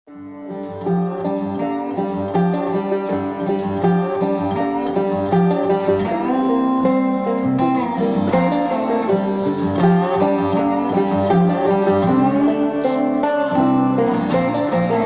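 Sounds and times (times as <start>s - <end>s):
bluegrass plucked string music: 0.1s - 15.0s.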